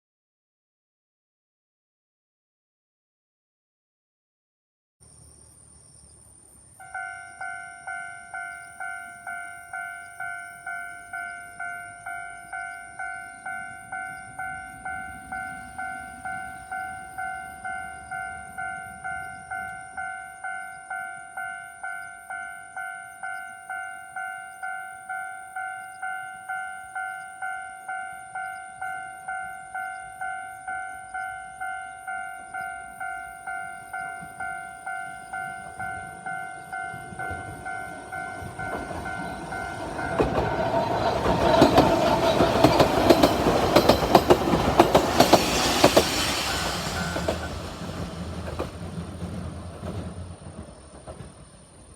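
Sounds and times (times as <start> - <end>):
level crossing warning bell: 6.8 - 48.7.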